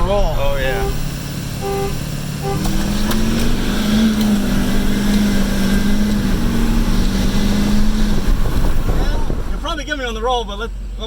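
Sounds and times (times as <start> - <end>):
truck engine accelerating hard: 0.0 - 11.0.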